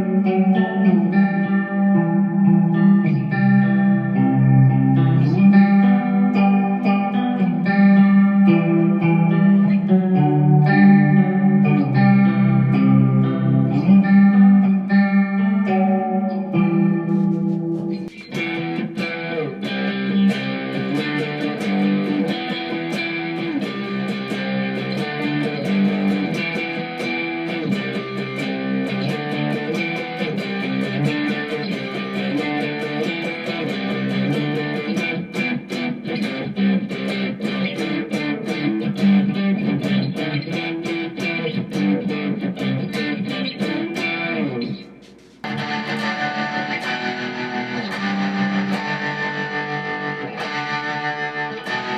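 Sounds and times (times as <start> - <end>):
electric guitar playing: 0.0 - 51.9.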